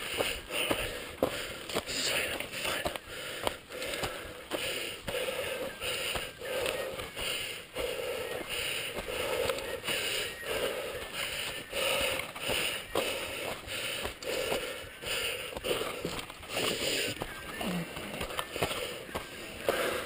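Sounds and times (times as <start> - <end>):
bike tyres rolling on dirt: 0.0 - 20.0
person breathing hard: 0.0 - 20.0.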